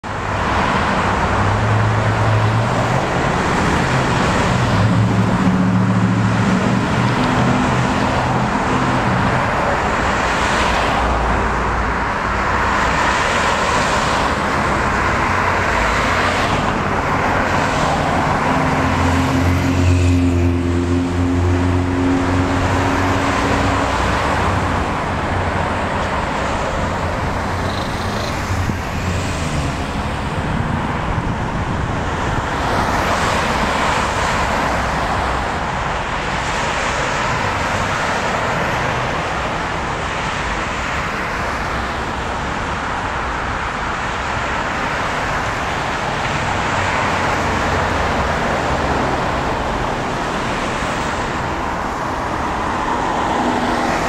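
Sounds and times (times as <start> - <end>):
cars passing: 0.0 - 54.0.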